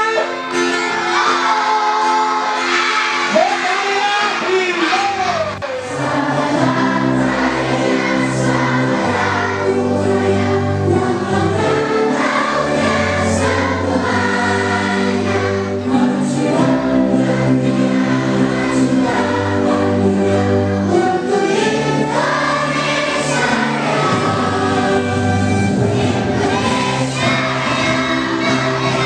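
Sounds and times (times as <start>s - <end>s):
instrumental accompaniment: 0.0s - 29.0s
children singing in unison: 0.2s - 29.0s.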